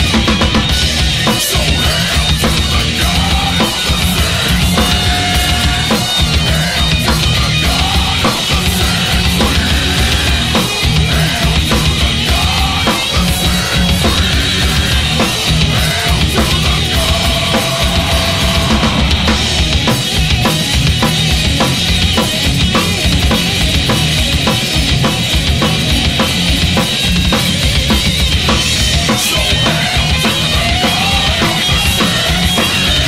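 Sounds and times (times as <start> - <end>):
heavy metal band playing: 0.0 - 33.0.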